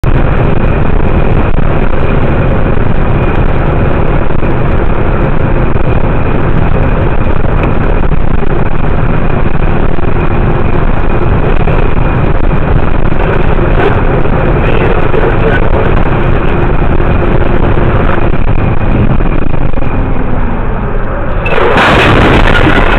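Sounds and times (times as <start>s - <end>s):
truck diesel engine drone: 0.0s - 22.9s
tyre noise on wet road: 0.0s - 22.9s.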